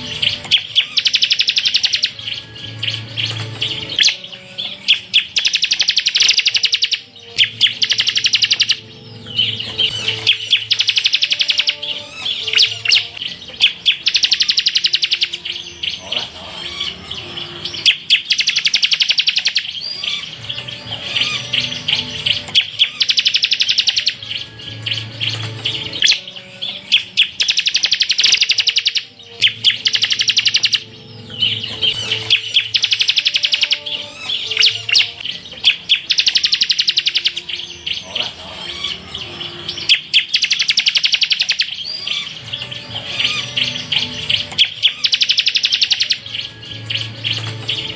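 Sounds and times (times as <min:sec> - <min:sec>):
bird buzzy trills: 0:00.0 - 0:47.9.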